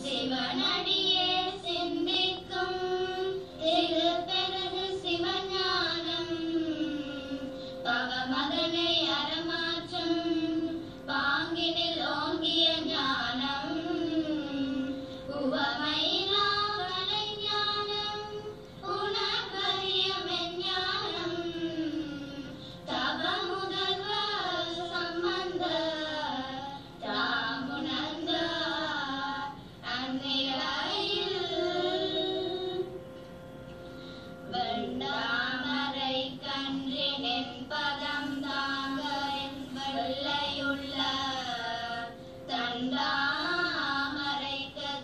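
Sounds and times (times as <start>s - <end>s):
girls singing a hymn: 0.0s - 45.0s.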